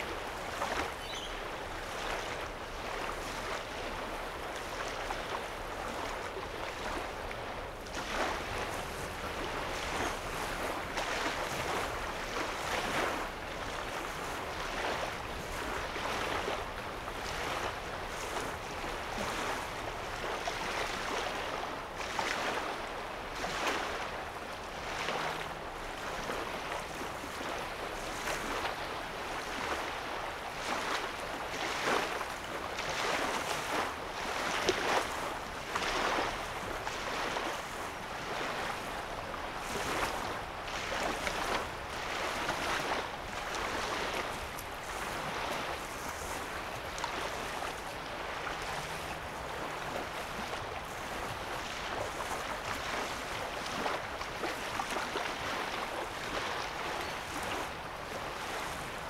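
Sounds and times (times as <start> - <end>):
waves lapping on shoreline: 0.0 - 59.0.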